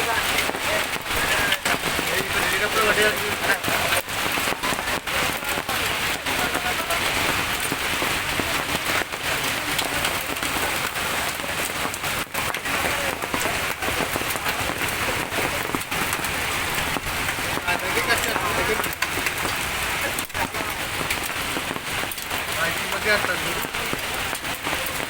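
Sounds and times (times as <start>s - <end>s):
hail and rain pelting down: 0.0s - 25.0s.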